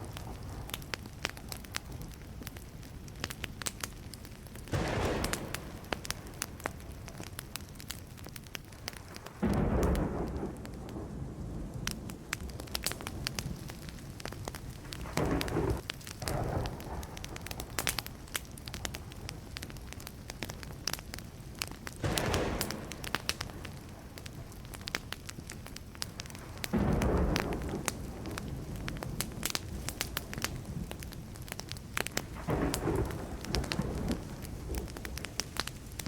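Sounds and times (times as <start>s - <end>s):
wood fire crackling and popping: 0.0s - 36.0s
thunder rumbling: 4.6s - 7.7s, 8.9s - 20.9s, 21.8s - 36.0s.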